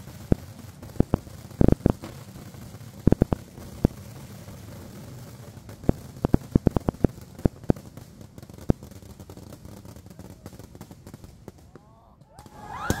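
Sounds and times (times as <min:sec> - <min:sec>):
crackle of aerial shells: 0:00.0 - 0:13.0
firework bangs: 0:00.0 - 0:13.0.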